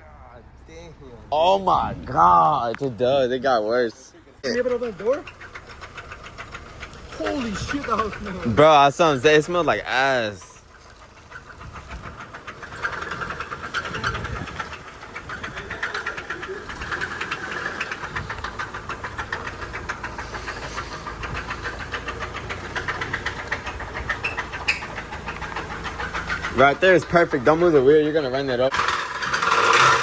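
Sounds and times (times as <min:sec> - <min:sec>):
car engine knocking: 0:00.0 - 0:30.0.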